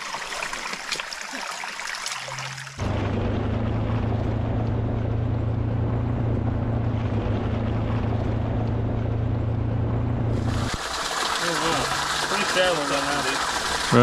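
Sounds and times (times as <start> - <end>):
electrofishing unit humming: 2.2 - 14.0.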